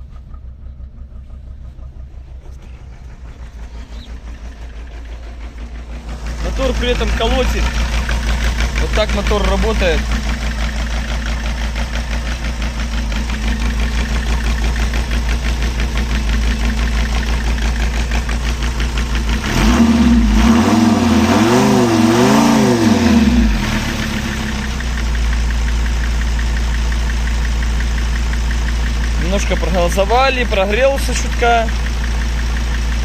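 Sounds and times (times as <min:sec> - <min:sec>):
diesel engine idling unevenly: 0:00.0 - 0:33.0
engine revving: 0:00.0 - 0:33.0.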